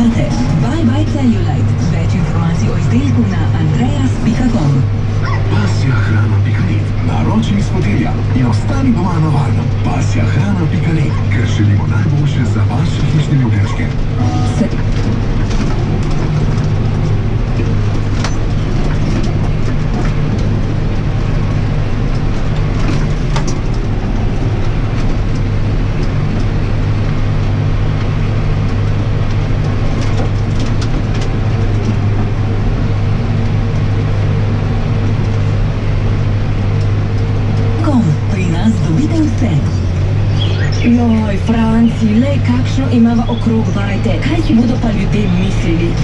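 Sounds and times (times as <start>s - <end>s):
tractor diesel engine droning: 0.0s - 46.0s.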